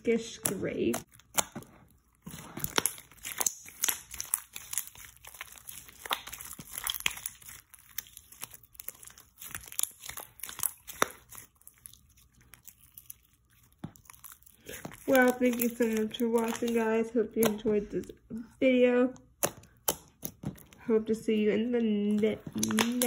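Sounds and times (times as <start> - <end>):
slime clicking and popping: 0.2 - 16.8, 17.4 - 17.7, 19.2 - 20.8, 22.1 - 23.0.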